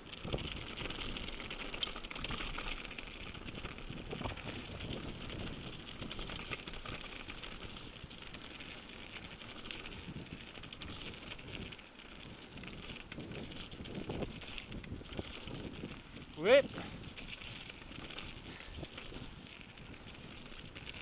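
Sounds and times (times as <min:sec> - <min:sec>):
bike tyres crunching on gravel: 0:00.0 - 0:21.0.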